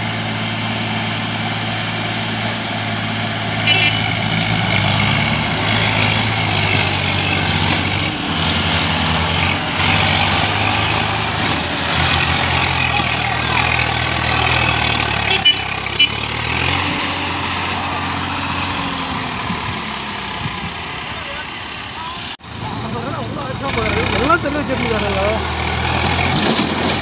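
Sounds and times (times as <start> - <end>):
tractor engines labouring: 0.0 - 27.0.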